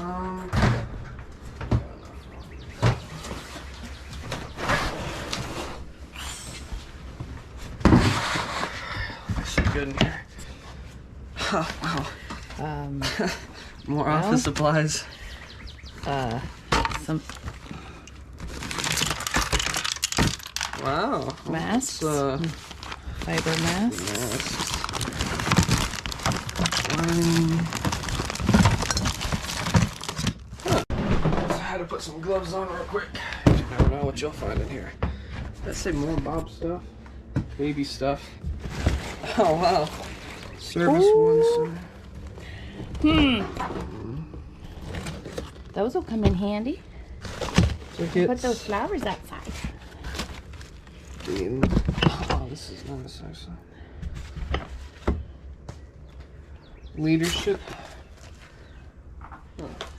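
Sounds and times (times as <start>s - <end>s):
rustling and shuffling of items: 0.0s - 59.9s.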